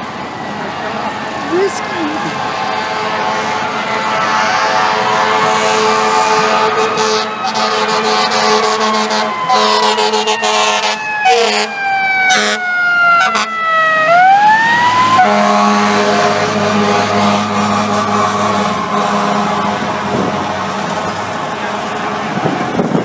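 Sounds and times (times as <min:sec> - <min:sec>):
bus engines idling: 0:00.0 - 0:23.0
fire truck siren wailing: 0:00.0 - 0:23.0.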